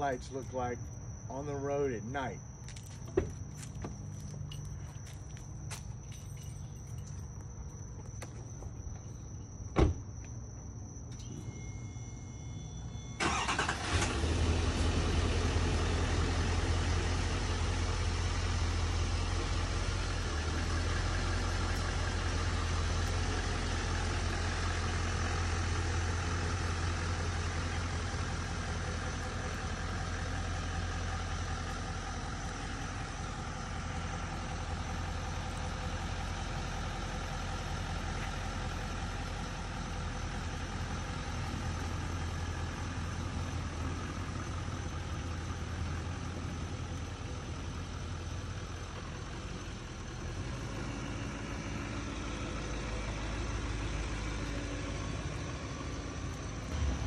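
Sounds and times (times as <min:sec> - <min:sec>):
diesel engine idling: 0:00.0 - 0:57.0
diesel truck engine starting: 0:08.8 - 0:57.0.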